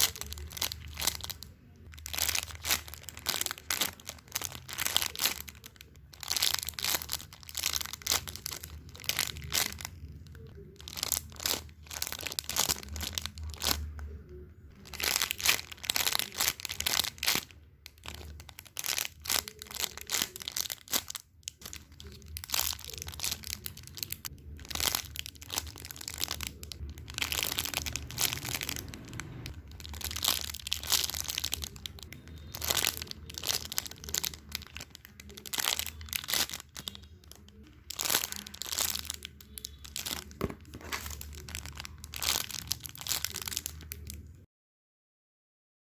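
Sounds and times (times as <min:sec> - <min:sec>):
crinkling and crunching: 0:00.0 - 0:44.4.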